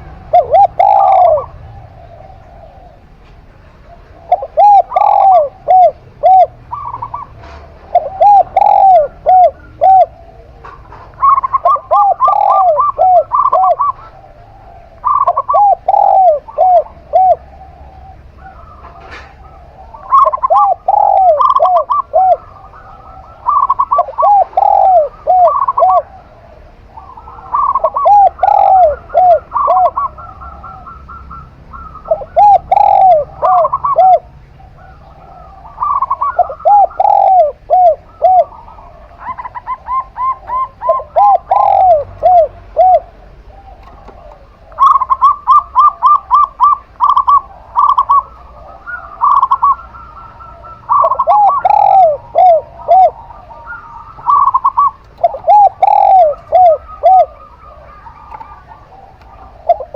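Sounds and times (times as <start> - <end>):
doves cooing: 0.0 - 59.9.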